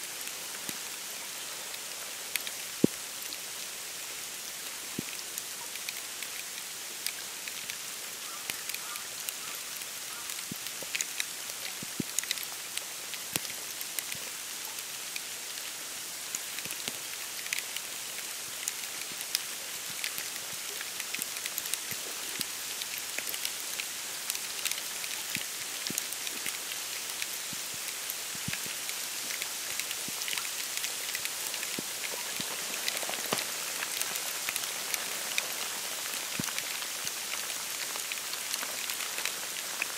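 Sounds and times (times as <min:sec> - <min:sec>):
wet snow pattering on reeds: 0:00.0 - 0:39.9.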